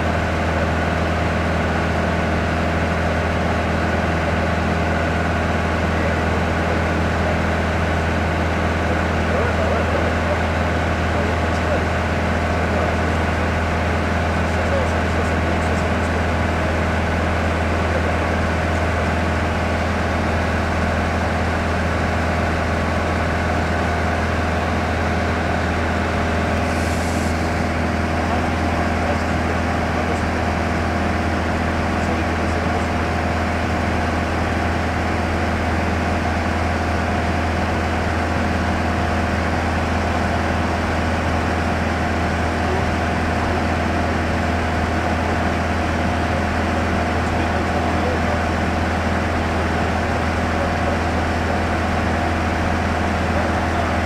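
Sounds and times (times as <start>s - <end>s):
aircraft engine and propeller hum: 0.0s - 54.0s.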